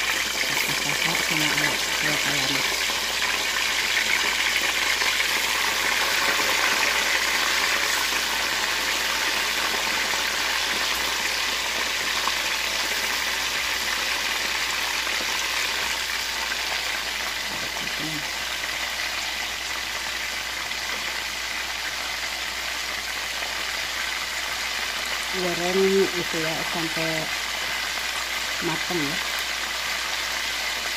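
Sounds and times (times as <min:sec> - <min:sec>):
chicken sizzling in hot oil: 0:00.0 - 0:30.9.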